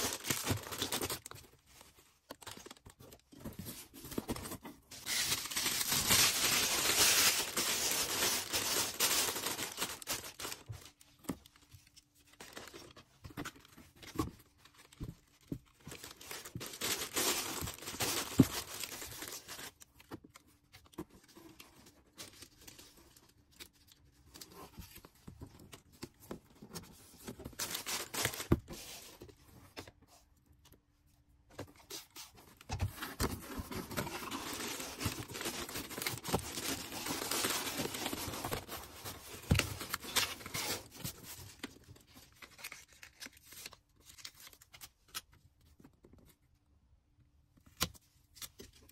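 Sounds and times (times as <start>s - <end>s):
plastic rustling and crinkling: 0.0s - 29.8s, 31.6s - 44.7s.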